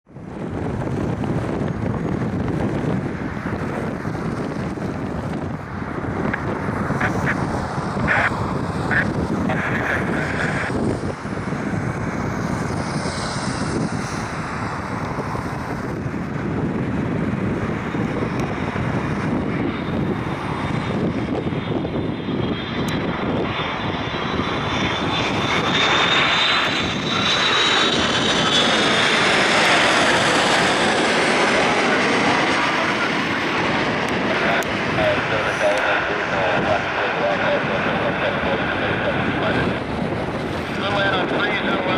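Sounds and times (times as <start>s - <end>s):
high engine whine: 0.1s - 41.9s
jet engines roaring: 0.1s - 41.9s.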